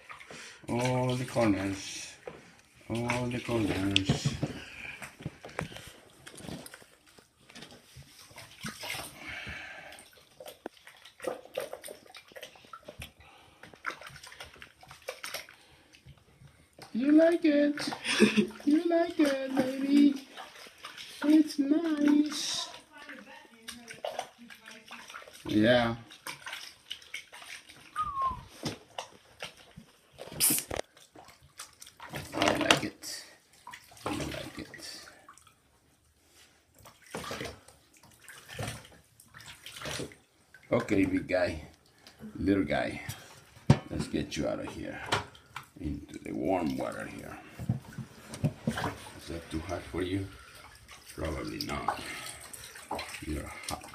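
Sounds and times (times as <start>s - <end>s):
water sloshing in plastic bucket: 0.0s - 53.9s.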